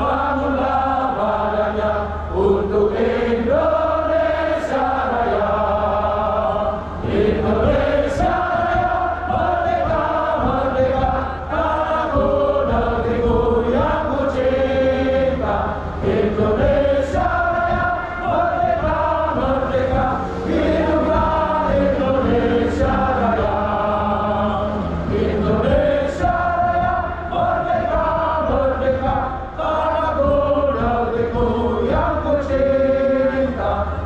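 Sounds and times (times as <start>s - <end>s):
crowd singing in unison: 0.0s - 34.0s.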